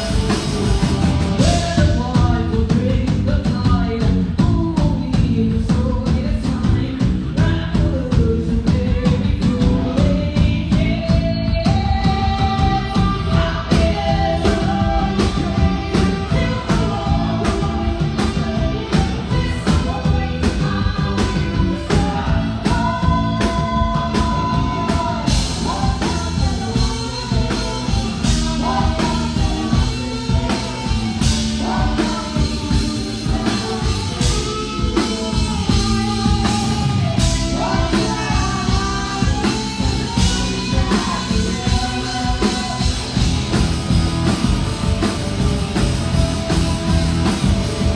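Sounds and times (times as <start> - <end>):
person singing: 0.0 - 45.2
drum kit: 0.0 - 47.9
guitars: 0.0 - 47.9.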